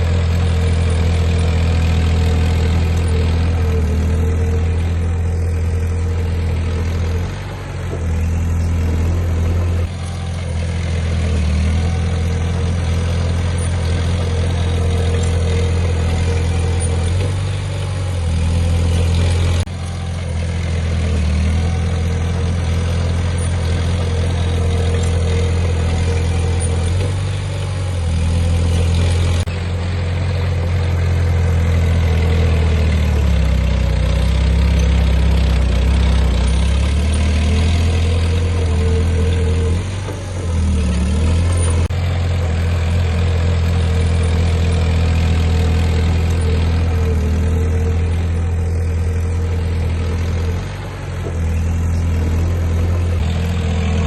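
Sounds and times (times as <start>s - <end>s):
heavy diesel engine humming: 0.0s - 54.0s.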